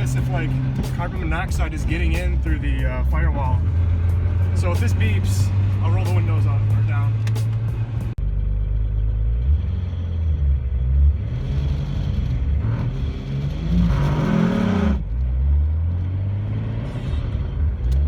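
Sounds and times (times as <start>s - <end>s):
car engine running: 0.0s - 16.1s.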